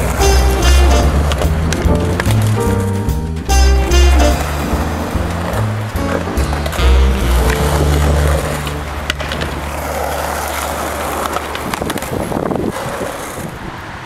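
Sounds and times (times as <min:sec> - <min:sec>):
skateboard clacks: 0:00.0 - 0:14.0
skateboard wheels rolling on concrete: 0:00.0 - 0:14.0.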